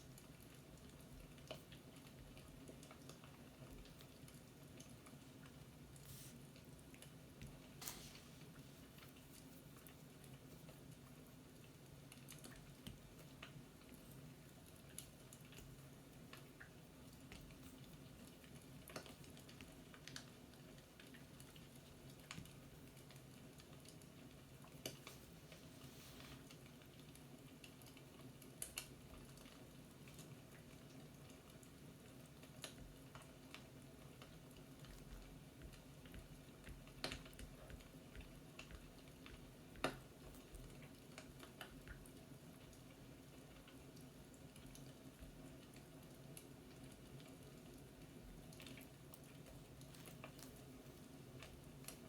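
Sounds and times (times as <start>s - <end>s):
soft clicks and crackles: 0.0s - 52.0s.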